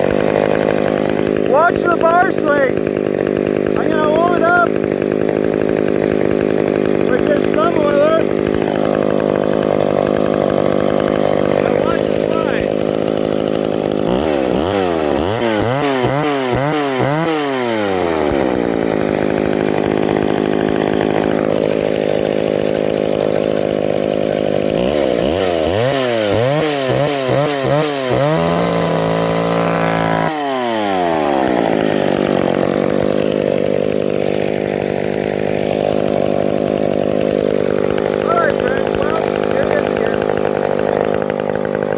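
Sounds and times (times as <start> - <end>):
chainsaw engine idling and revving: 0.0 - 41.9.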